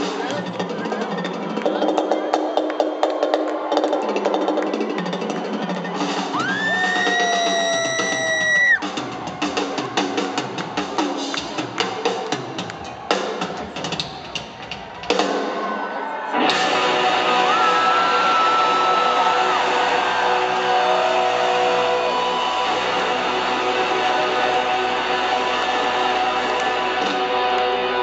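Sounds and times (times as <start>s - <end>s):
rock band playing loud: 0.0s - 28.0s.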